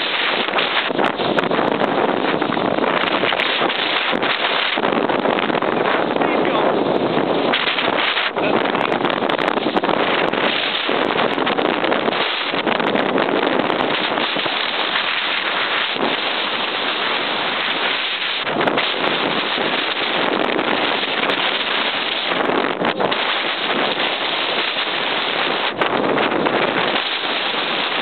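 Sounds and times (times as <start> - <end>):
snowboard scraping over snow: 0.0 - 28.0
wind buffeting microphone: 0.0 - 28.0.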